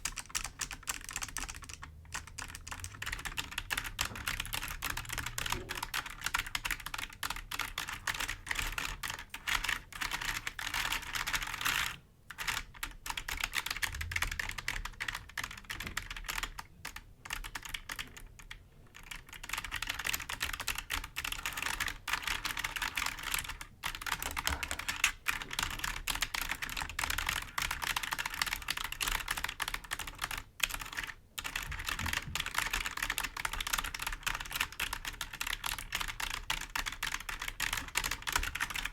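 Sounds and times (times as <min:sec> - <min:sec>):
typing on clicky keyboard: 0:00.0 - 0:38.9.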